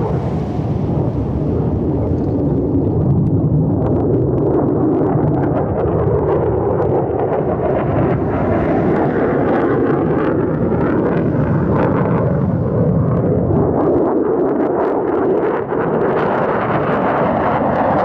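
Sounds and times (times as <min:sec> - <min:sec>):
fighter jets flying past: 0:00.0 - 0:18.0.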